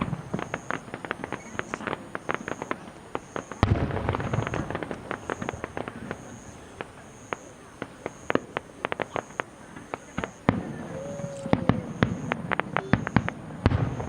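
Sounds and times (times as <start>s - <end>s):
firework shell booming: 0.0s - 14.0s
fireworks crackling: 0.0s - 14.0s.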